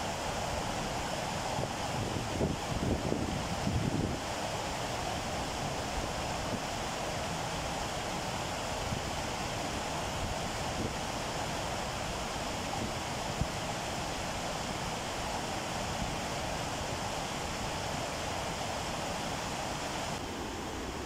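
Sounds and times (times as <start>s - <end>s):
water rushing over weir: 0.0s - 21.0s.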